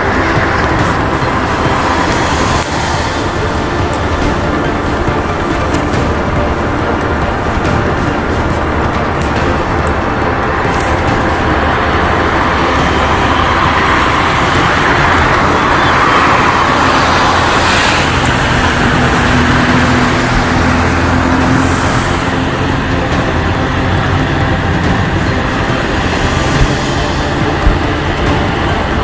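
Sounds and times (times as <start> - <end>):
road traffic noise: 0.0 - 29.0
vehicle passing: 0.0 - 29.0.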